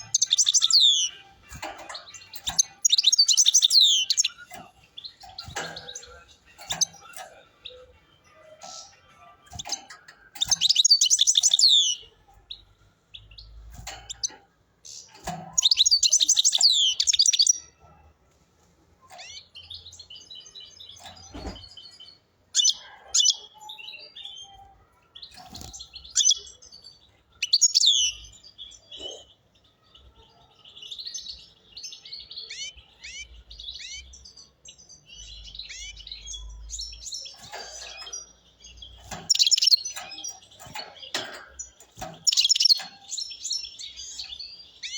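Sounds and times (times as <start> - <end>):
goldfinch singing: 0.0 - 17.8, 25.2 - 29.3, 30.9 - 44.9.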